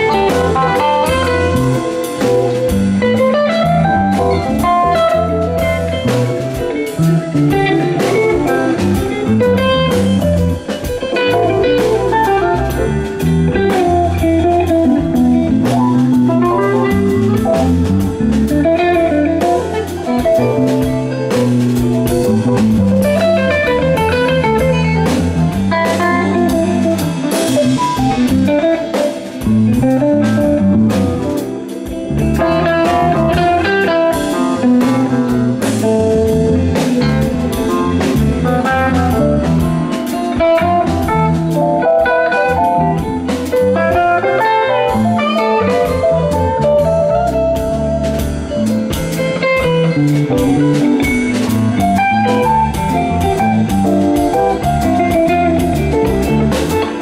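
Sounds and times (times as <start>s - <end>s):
drum kit: 0.0s - 57.0s
electric bass: 0.0s - 57.0s
electric guitar lead lines: 0.0s - 57.0s.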